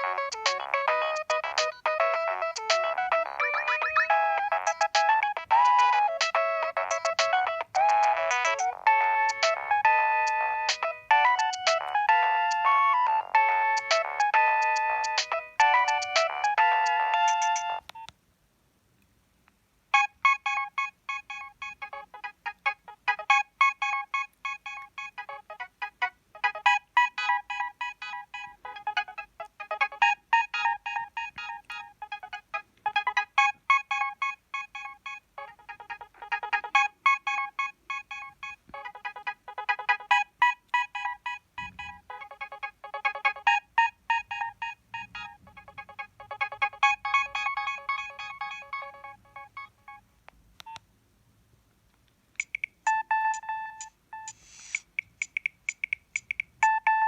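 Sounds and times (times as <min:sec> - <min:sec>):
mobile phone ringtone melody: 0:00.0 - 0:18.1, 0:19.9 - 0:50.8, 0:52.4 - 0:54.7, 0:56.6 - 0:57.0.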